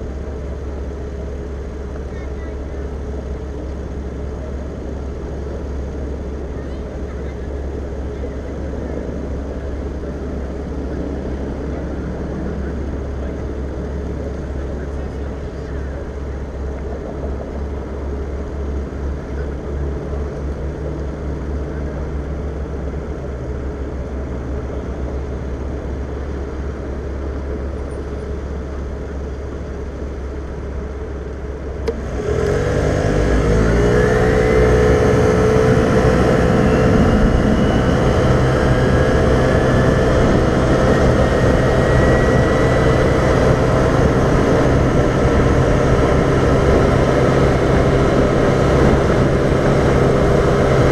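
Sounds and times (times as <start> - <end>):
road and wind noise: 0.0 - 50.9
scooter engine: 0.0 - 50.9.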